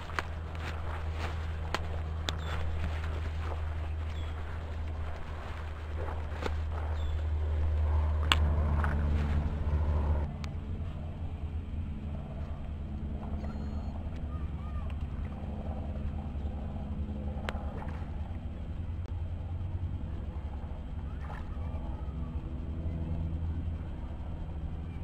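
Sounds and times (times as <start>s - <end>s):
faint steady drone: 0.0s - 25.0s
wind rumbling on microphone: 0.0s - 25.0s.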